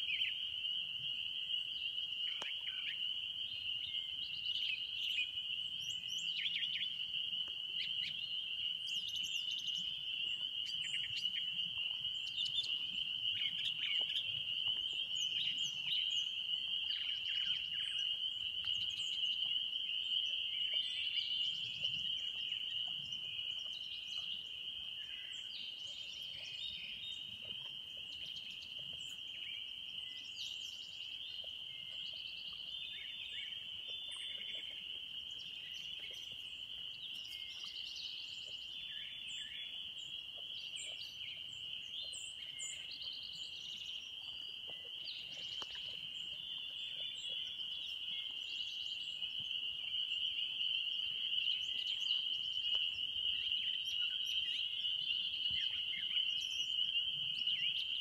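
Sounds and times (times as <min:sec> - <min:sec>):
frog chorus trilling: 0:00.0 - 0:58.0.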